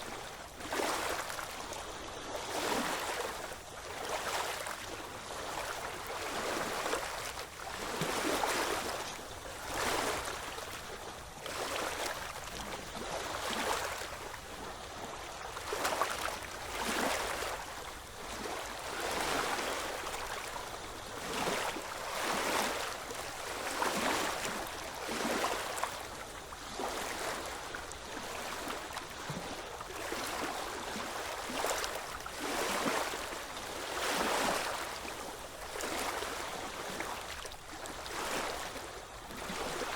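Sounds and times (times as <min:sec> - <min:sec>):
small ocean waves washing in: 0:00.0 - 0:39.9.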